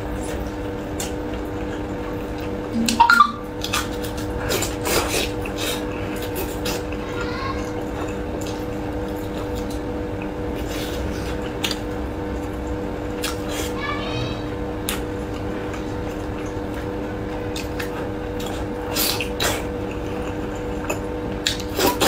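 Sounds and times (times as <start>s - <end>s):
steady hum and hiss: 0.0s - 22.0s
chewing and lip-smacking: 0.2s - 7.1s, 7.7s - 13.8s, 14.8s - 22.0s.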